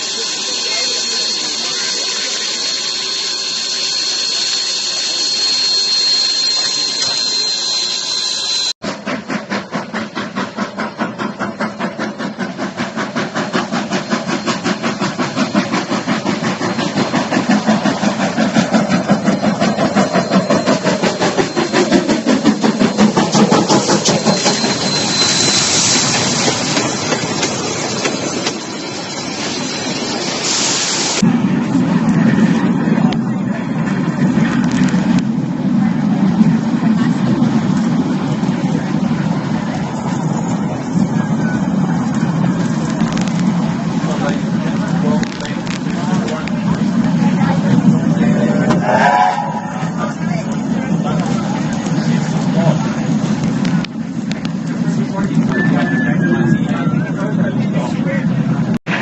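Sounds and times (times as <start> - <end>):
steam locomotive exhaust chuffing: 0.0 - 59.0
steam locomotive hissing: 0.0 - 59.0.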